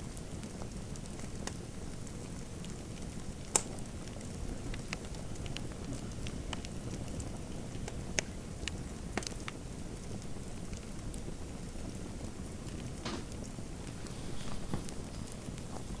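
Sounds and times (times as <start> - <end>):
fire crackling and popping: 0.0 - 16.0
low steady fire rumble: 0.0 - 16.0.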